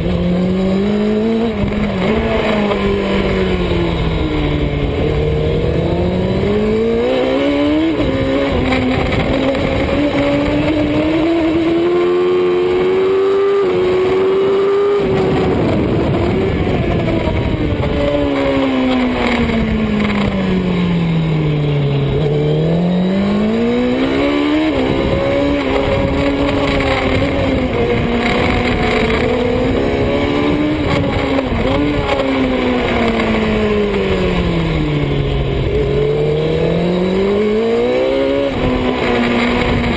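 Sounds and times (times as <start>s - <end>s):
superbike engine revving through gears: 0.0s - 39.9s.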